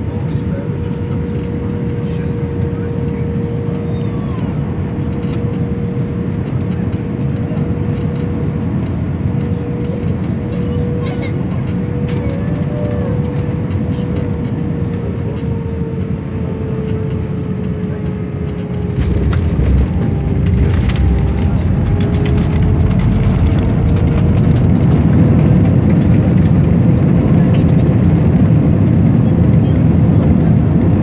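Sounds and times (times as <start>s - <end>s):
jet engine whine: 0.0s - 31.0s.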